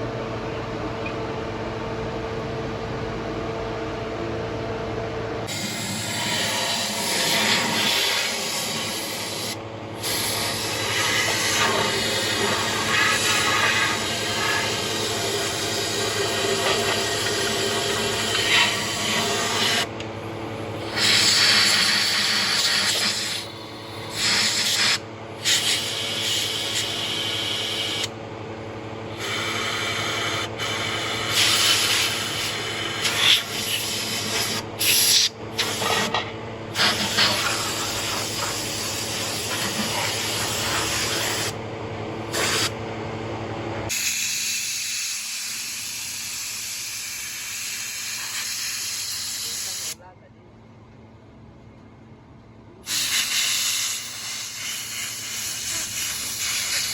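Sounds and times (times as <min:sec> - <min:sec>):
steady machine hum: 0:00.0 - 0:56.9.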